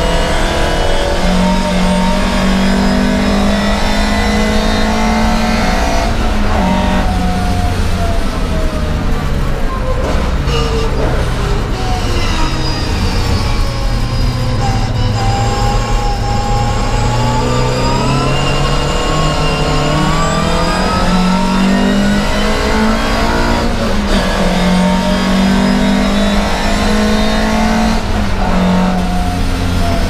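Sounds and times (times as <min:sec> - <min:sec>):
racing car engine accelerating: 0:00.0 - 0:30.0.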